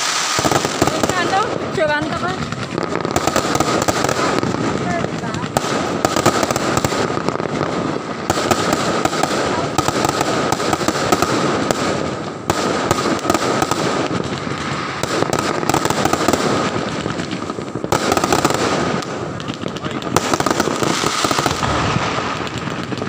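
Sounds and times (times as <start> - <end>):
fireworks crackling: 0.0 - 23.0
sharp firework crack: 0.0 - 23.0.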